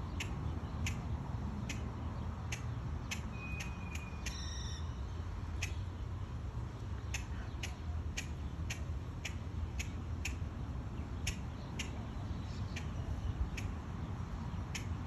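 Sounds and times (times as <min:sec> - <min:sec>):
small bird chip calls: 0:00.0 - 0:06.0, 0:07.0 - 0:15.0.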